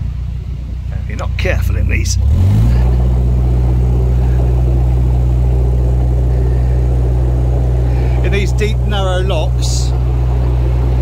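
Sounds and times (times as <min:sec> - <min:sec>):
boat diesel engine revving: 0:00.0 - 0:11.0.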